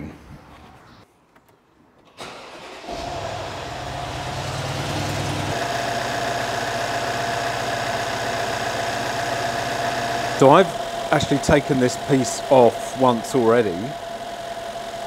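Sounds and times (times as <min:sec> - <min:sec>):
car engine starting and idling: 0:02.0 - 0:15.0
steady engine whine: 0:02.3 - 0:15.0.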